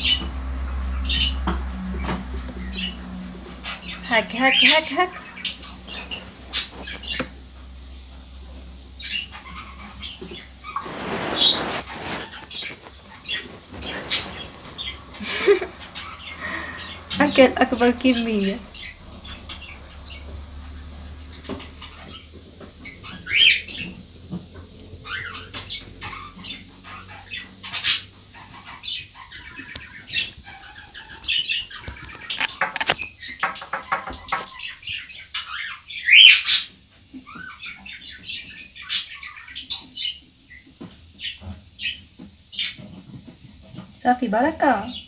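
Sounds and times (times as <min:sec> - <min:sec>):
small bird chirping: 0:02.6 - 0:08.2, 0:08.8 - 0:24.2, 0:24.9 - 0:43.0.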